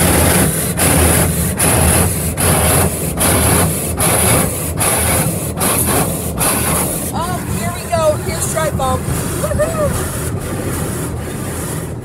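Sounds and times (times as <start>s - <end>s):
car wash spray jets: 0.0s - 12.0s.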